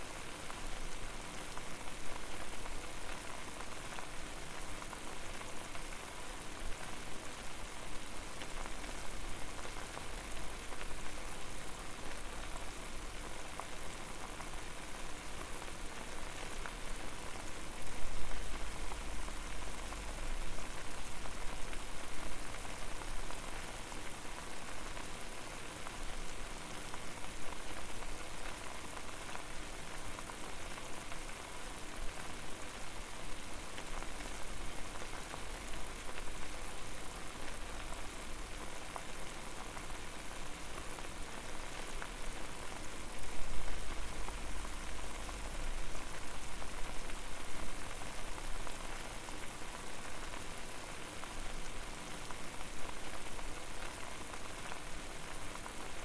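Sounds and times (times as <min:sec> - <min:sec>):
water boiling and bubbling: 0:00.0 - 0:56.0.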